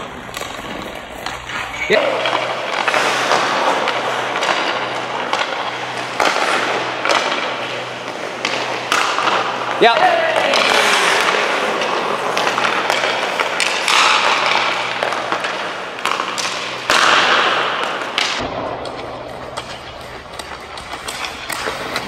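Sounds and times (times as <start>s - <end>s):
low rink hum: 0.0s - 22.0s
skate blades scraping on ice: 0.0s - 22.0s.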